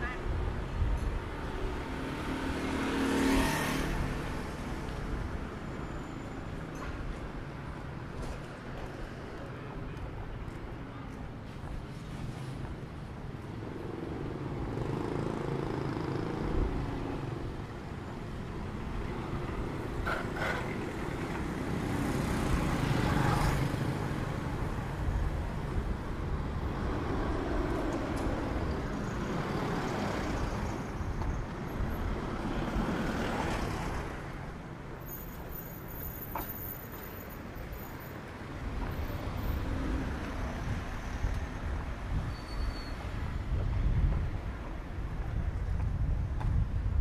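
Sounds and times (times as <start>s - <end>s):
vehicles passing by: 0.0s - 47.0s.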